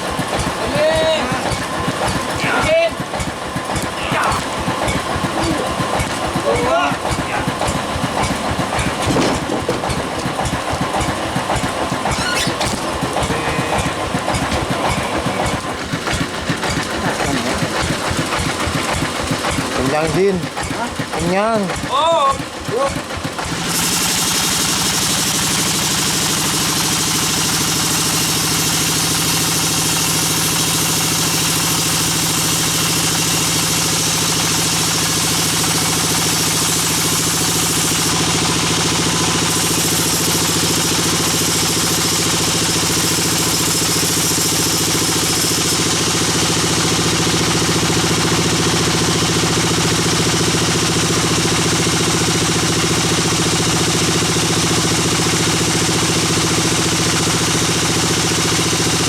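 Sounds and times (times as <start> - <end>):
sawmill bandsaw drone: 0.0 - 59.0.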